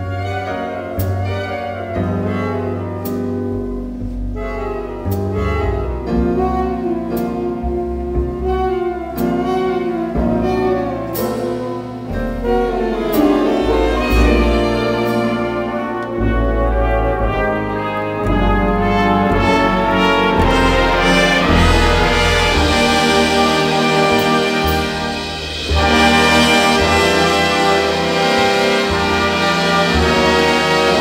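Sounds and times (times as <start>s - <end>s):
horn chords: 0.0s - 31.0s
walking bass: 2.8s - 31.0s.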